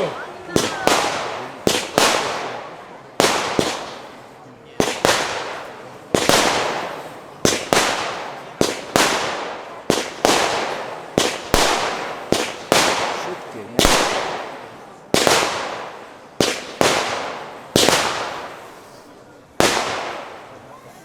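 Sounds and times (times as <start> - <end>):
firework bangs with crackling hiss: 0.0 - 21.0.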